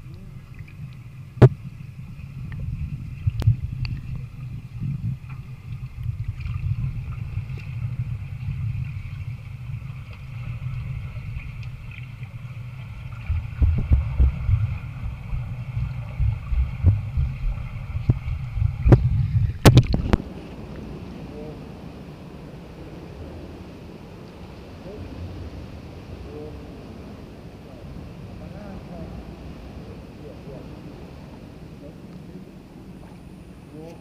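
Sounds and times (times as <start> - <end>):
muffled underwater water movement: 0.0 - 34.0.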